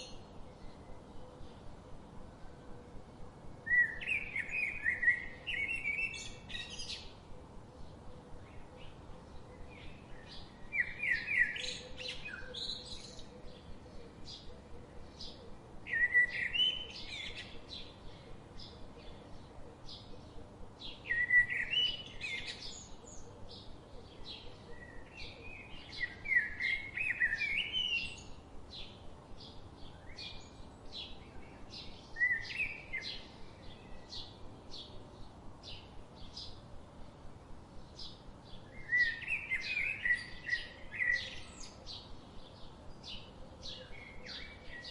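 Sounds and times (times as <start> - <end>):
bird warbling song: 3.6 - 36.6, 37.8 - 44.9.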